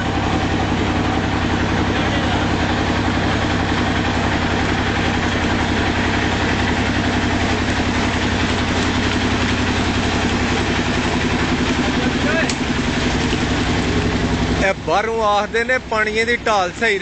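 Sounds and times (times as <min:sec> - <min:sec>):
engine running with pulsing beat: 0:00.0 - 0:17.0.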